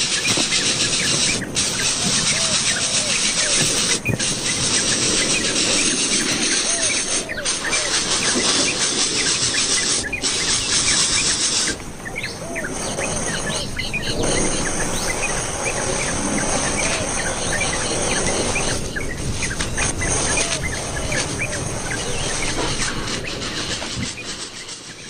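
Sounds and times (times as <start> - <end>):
high bird chirps: 0.0 - 23.5.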